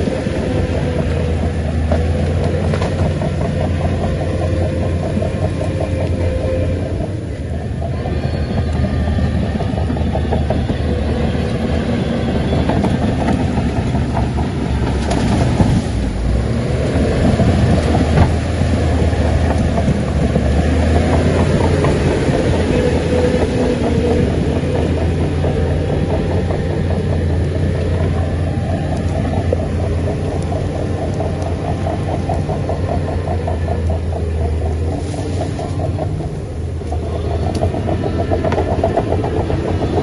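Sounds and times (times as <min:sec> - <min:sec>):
bulldozer diesel engine running: 0:00.0 - 0:40.0
steel tracks clattering: 0:00.0 - 0:40.0.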